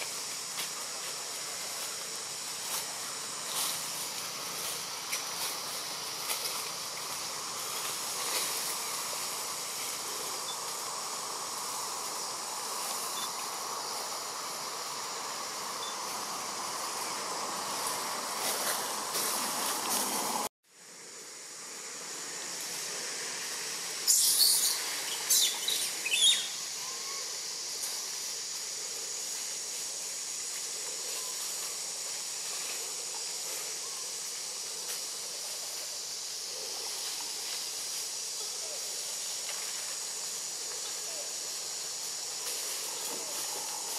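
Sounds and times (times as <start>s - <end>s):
hissing insect chorus: 0.0s - 43.9s.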